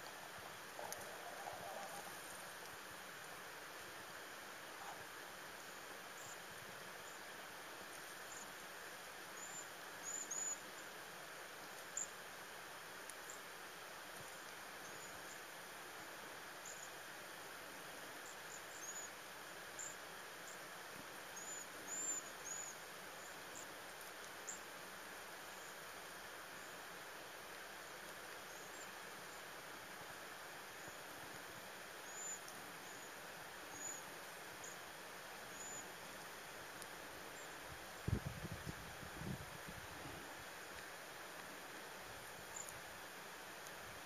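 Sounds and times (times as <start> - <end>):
background hiss: 0.0 - 44.0.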